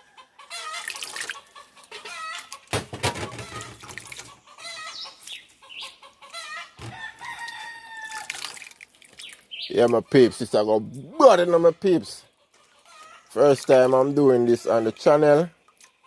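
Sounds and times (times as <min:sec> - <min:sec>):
chickens clucking: 0:00.0 - 0:08.0, 0:09.2 - 0:16.0.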